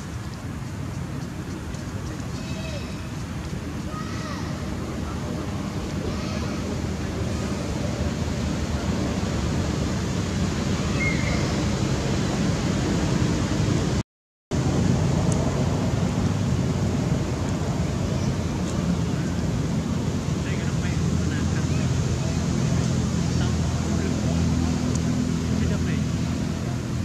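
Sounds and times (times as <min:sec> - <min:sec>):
outdoor rumble and hiss: 0:00.0 - 0:27.0.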